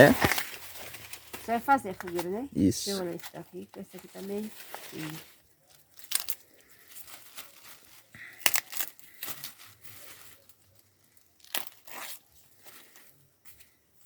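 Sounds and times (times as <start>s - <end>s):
dry corn husks crackling: 0.0s - 14.0s.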